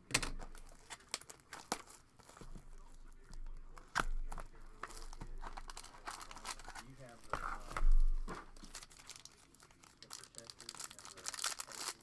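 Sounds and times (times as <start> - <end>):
card packaging torn and crinkled: 0.2 - 3.0, 3.7 - 12.0.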